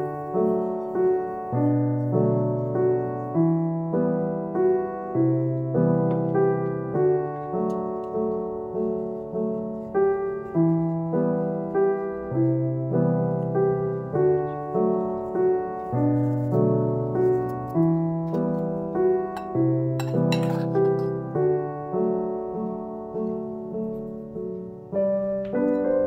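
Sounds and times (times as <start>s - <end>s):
gentle solo piano: 0.0s - 26.0s.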